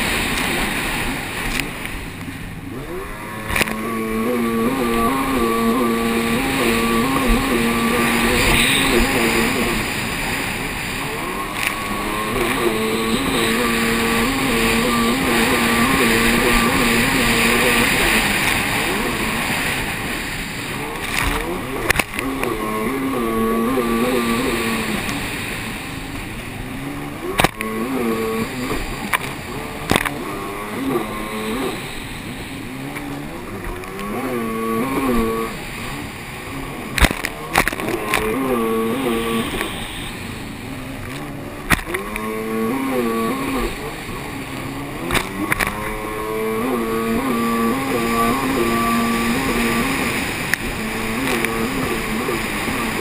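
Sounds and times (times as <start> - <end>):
jet ski engine revving: 0.0 - 53.0
wind and spray rushing: 0.0 - 53.0.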